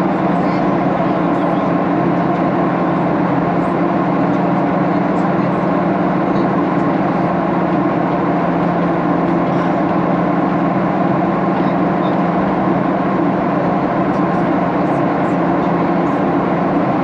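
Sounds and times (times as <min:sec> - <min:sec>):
constant low hum: 0:00.0 - 0:17.0
jet engine cabin roar: 0:00.0 - 0:17.0.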